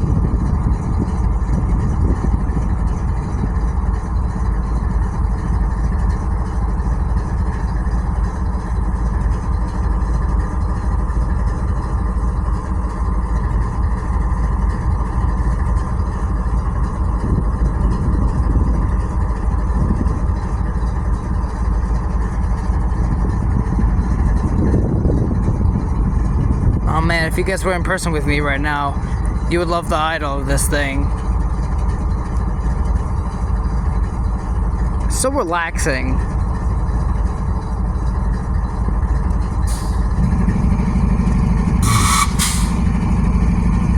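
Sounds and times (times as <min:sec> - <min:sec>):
locomotive engines idling: 0:00.0 - 0:43.9.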